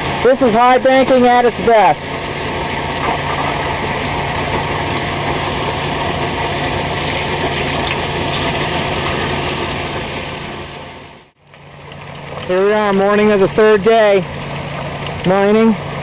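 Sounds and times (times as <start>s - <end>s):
engine drone: 0.0s - 16.0s
water and gravel rushing hiss: 0.0s - 16.0s.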